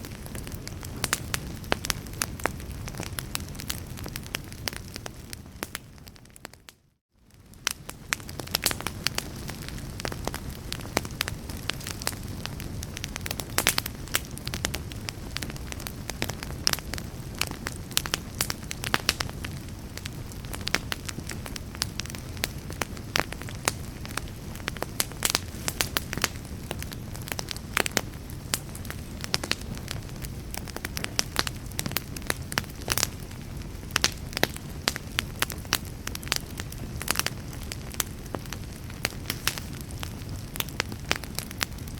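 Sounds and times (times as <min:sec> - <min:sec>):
fire pops and snaps: 0:00.0 - 0:41.9
low rumble of flames: 0:00.0 - 0:41.9.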